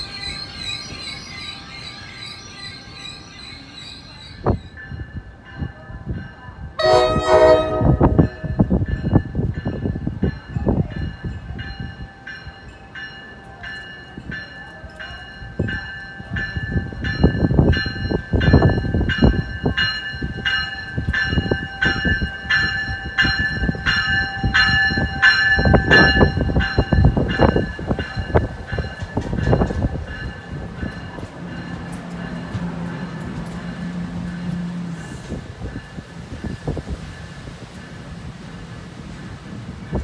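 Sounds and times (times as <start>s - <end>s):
train rumbling: 0.0s - 40.0s
train warning bell ringing: 0.0s - 40.0s.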